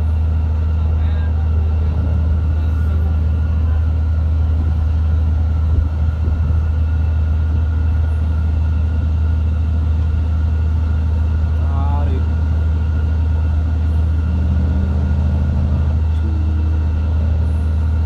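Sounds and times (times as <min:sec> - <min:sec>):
diesel boat engine droning: 0:00.0 - 0:18.0.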